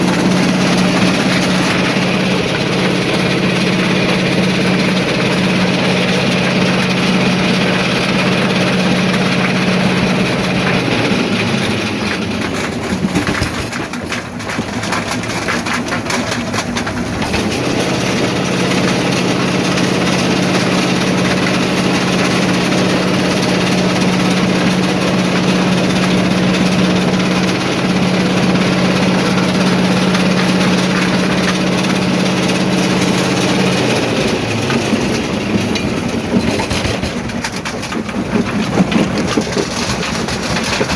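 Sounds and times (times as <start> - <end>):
rattling and knocking: 0.0 - 40.9
rock crusher droning: 0.0 - 40.9.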